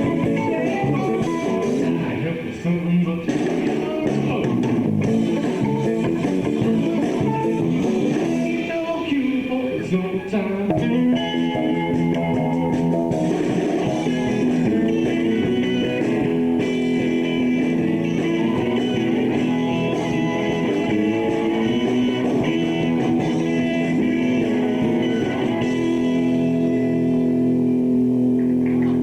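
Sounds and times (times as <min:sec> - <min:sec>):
electric guitar: 0:00.0 - 0:29.0
rock band playing live: 0:00.0 - 0:29.0.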